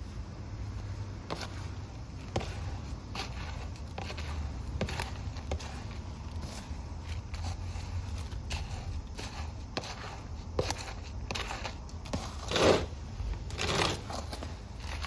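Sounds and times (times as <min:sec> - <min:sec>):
rustling and scraping handling: 0:00.0 - 0:15.0.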